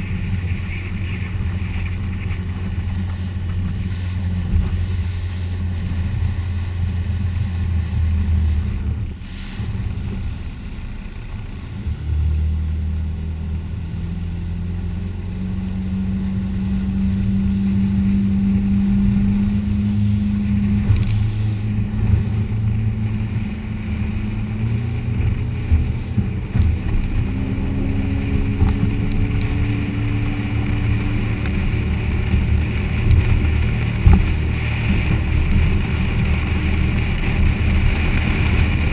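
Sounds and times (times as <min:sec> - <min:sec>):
wind on microphone: 0:00.0 - 0:10.5, 0:13.0 - 0:38.9
motorboat engine running: 0:00.0 - 0:38.9
water rushing past hull: 0:00.0 - 0:38.9.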